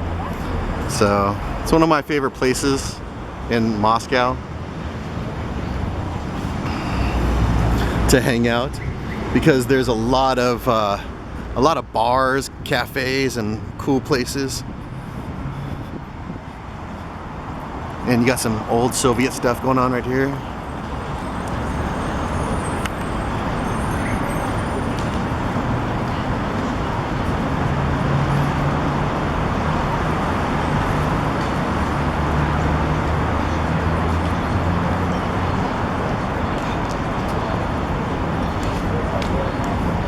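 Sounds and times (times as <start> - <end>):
city street traffic: 0.0 - 40.0.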